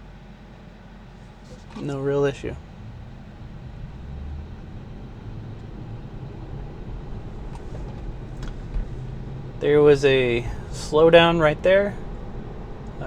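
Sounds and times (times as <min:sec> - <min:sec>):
road and tyre noise in car cabin: 0:00.0 - 0:13.0.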